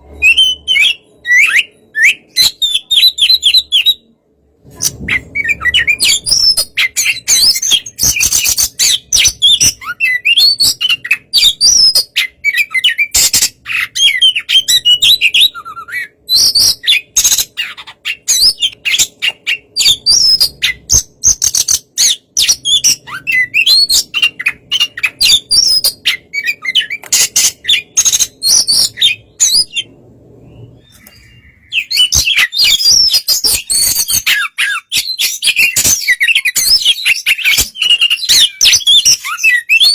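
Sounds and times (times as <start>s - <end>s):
magpie-robin singing: 0.0s - 4.1s, 4.8s - 39.9s.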